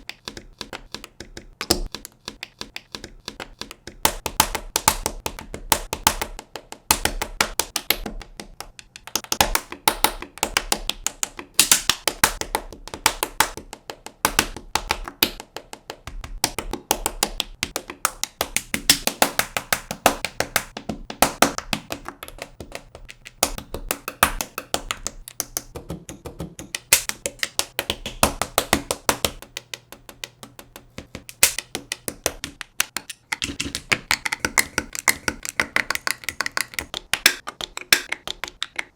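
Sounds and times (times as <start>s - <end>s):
plastic bricks snapping together: 0.1s - 38.9s.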